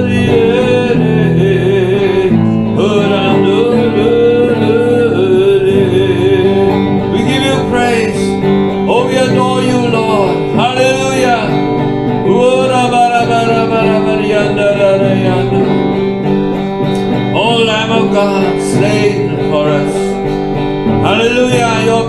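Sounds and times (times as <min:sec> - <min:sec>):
acoustic guitar: 0:00.0 - 0:22.0
person singing: 0:00.0 - 0:22.0.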